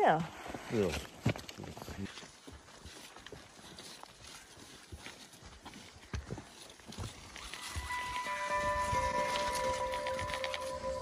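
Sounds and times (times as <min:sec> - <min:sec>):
footsteps on soft trail: 0:00.0 - 0:11.0.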